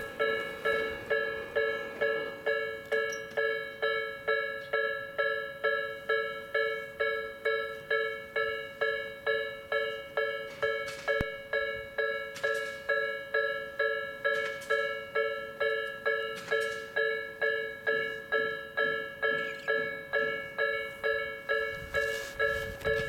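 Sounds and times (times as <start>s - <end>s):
electronic level-crossing bell ringing: 0.0s - 23.0s.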